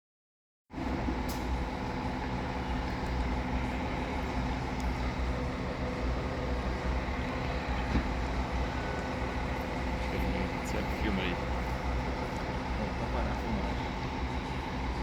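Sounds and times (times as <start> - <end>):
coach engine hum: 0.7 - 15.0.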